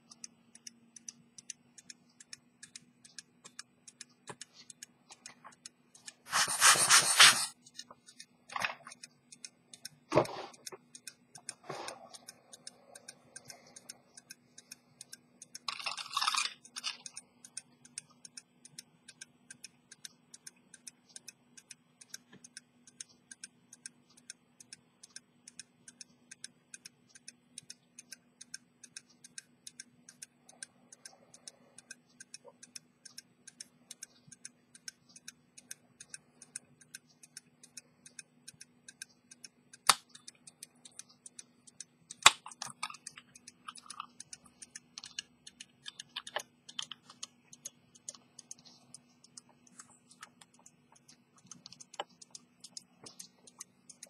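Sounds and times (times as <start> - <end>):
pocket watch ticking: 0.0 - 6.4, 8.0 - 54.0
sharp clicks: 8.2 - 54.0.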